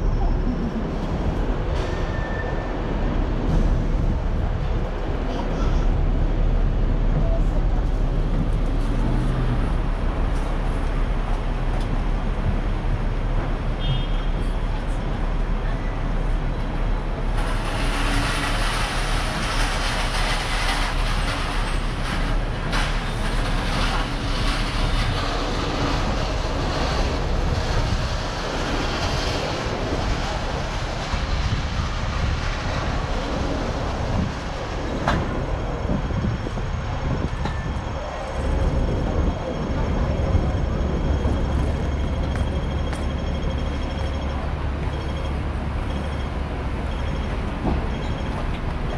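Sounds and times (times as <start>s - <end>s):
city traffic: 0.0s - 48.9s
tram wheels rumbling on rails: 0.0s - 48.9s.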